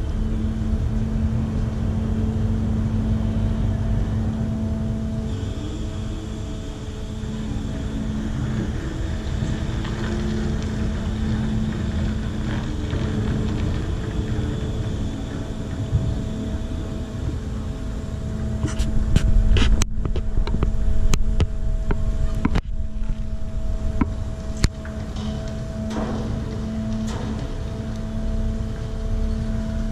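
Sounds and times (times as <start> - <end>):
ferry engines humming: 0.0 - 29.9
low rumbling: 0.0 - 29.9.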